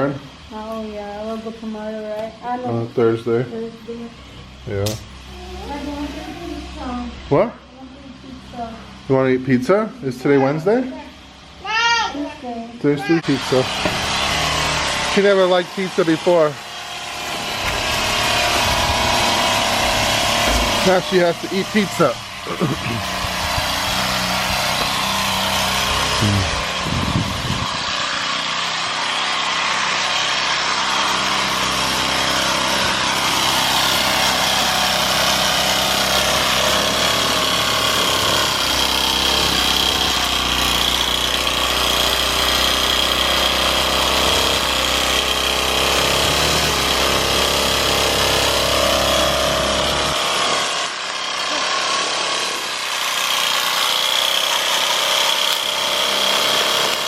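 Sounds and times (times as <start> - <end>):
power tool running: 0.0 - 57.0.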